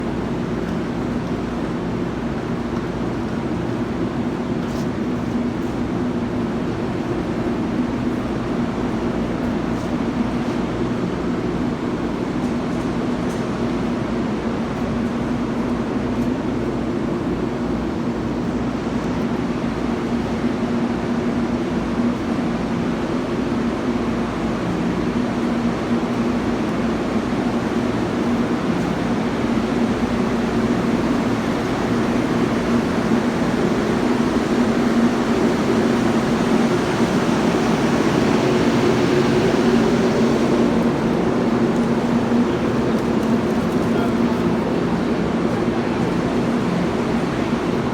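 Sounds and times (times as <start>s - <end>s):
electric trains humming: 0.0s - 47.9s.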